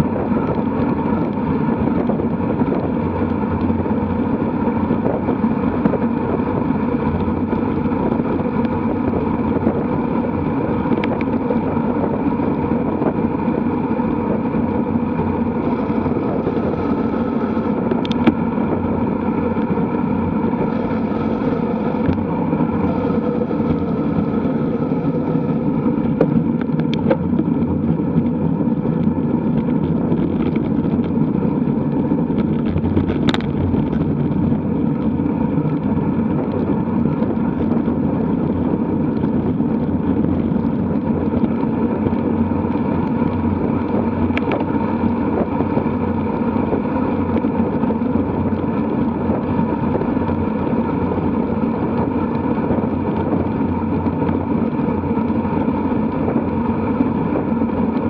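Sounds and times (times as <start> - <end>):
bike tyres on tarmac: 0.0 - 58.0
wind rushing over microphone: 0.0 - 58.0.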